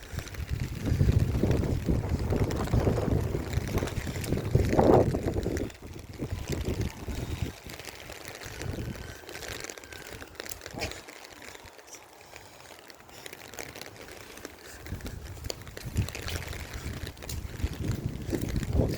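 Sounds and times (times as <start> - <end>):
wind buffeting microphone: 0.0 - 11.8, 14.6 - 18.9
rain falling: 0.0 - 18.9.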